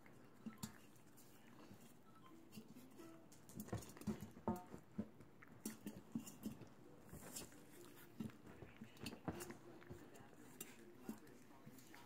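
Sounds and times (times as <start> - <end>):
puppies lapping and chewing: 0.0 - 12.0.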